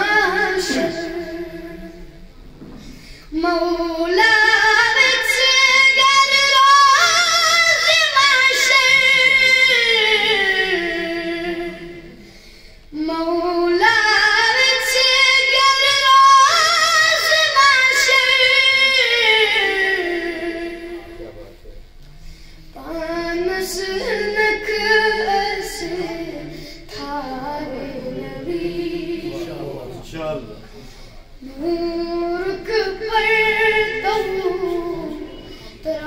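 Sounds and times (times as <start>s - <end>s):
boy singing: 0.0s - 2.2s, 3.3s - 12.2s, 12.9s - 21.2s, 22.8s - 30.0s, 31.4s - 36.0s.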